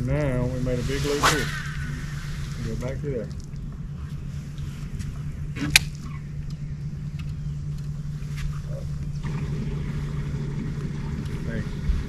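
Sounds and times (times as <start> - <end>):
low boat motor hum: 1.6 - 12.0.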